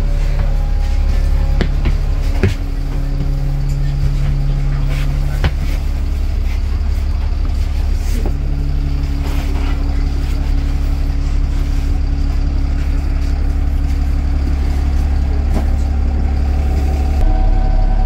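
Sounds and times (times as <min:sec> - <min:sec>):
bus diesel engine drone: 0:00.0 - 0:18.0
higher hum: 0:00.0 - 0:18.0.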